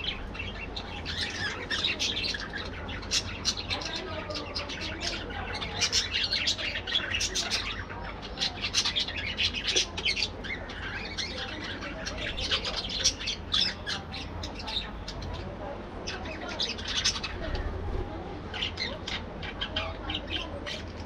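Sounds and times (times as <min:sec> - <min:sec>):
budgerigars chirping: 0:00.0 - 0:15.5, 0:16.1 - 0:17.5, 0:18.5 - 0:21.0.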